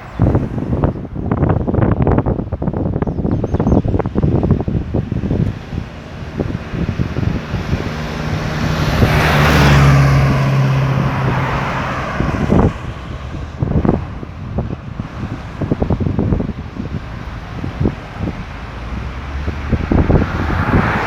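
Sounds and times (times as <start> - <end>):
vehicle passing on highway: 0.0 - 21.0
wind buffeting microphone: 0.0 - 21.0.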